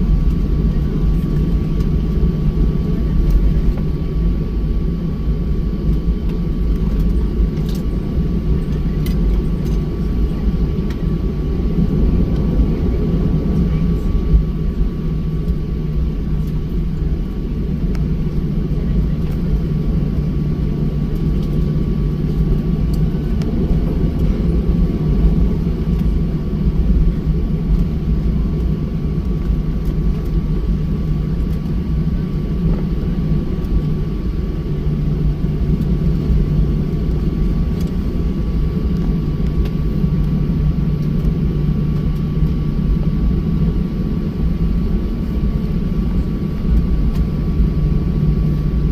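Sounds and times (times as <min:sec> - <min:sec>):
jet engine roar in cabin: 0:00.0 - 0:48.9.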